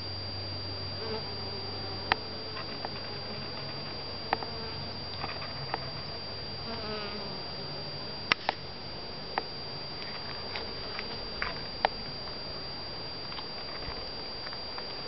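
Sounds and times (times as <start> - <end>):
honeybees buzzing: 0.7 - 15.0.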